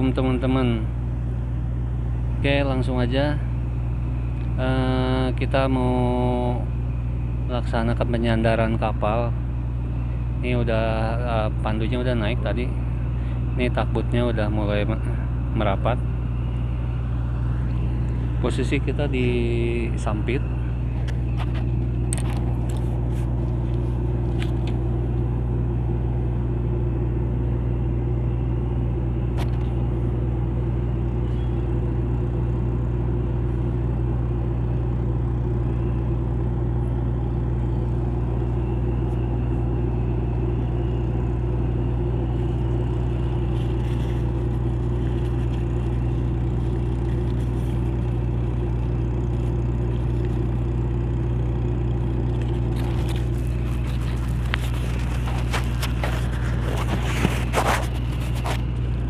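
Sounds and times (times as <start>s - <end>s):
ship engine droning: 0.0s - 59.0s.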